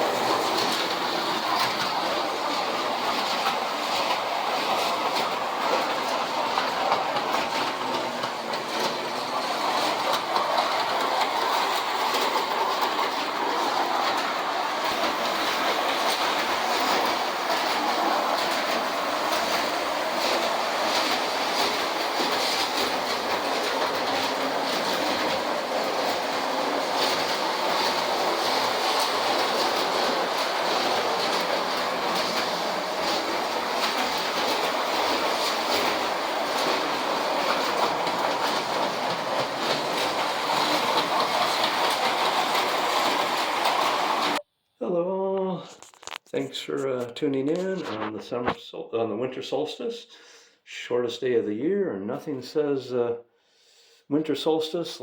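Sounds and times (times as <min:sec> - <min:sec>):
toy train motors and wheels on rails: 0:00.0 - 0:44.4.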